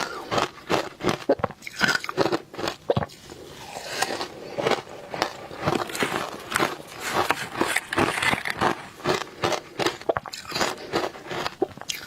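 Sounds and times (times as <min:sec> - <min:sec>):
crunching frozen ice: 0:00.0 - 0:12.0.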